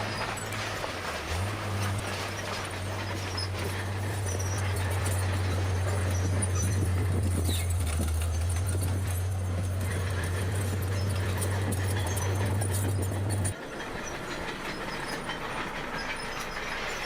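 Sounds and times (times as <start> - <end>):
bulldozer diesel engine running: 0.0 - 17.0
light irregular clatter: 0.0 - 17.0.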